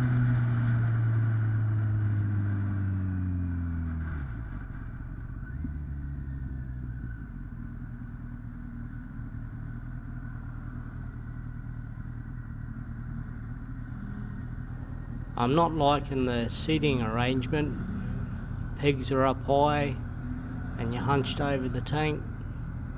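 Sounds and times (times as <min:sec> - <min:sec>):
motorcycle engine at low revs: 0:00.0 - 0:22.9.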